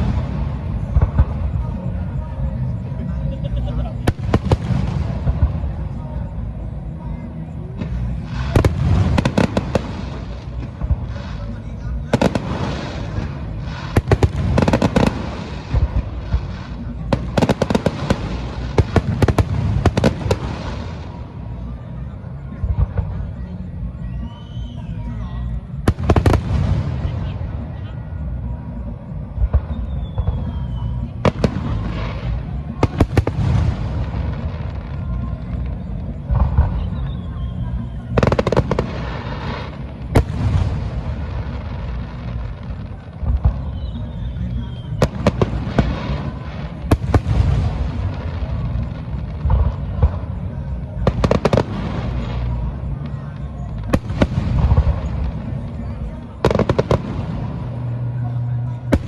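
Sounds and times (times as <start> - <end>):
fireworks bursting with sharp bangs: 0.0 - 59.0.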